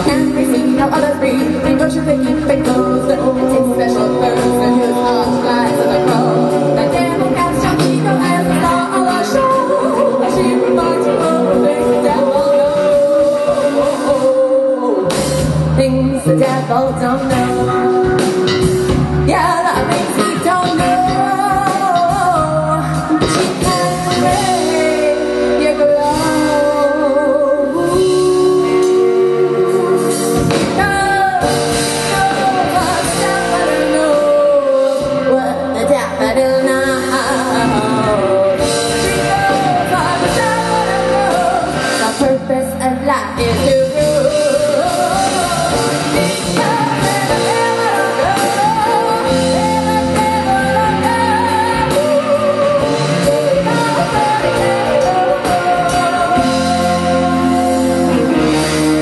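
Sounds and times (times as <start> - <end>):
live rock band playing: 0.0 - 59.0
woman singing lead: 0.0 - 59.0.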